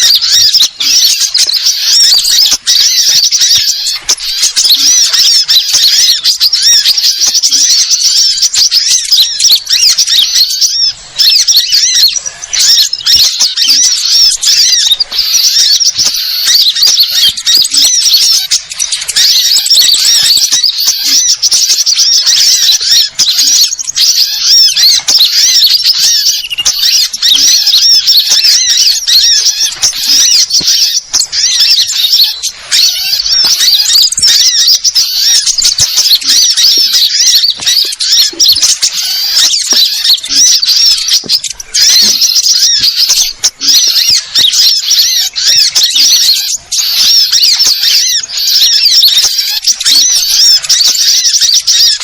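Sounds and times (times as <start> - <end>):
chorus of small birds chirping: 0.0 - 52.0.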